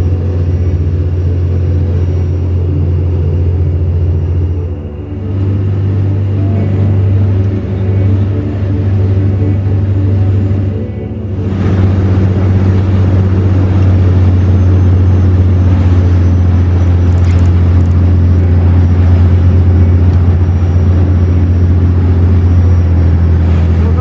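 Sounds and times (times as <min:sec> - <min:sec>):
boat engine drone: 0:00.0 - 0:24.0.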